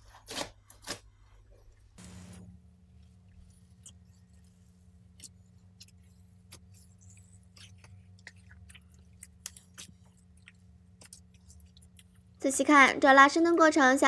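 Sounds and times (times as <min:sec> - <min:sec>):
steady low hum: 0:01.1 - 0:14.0.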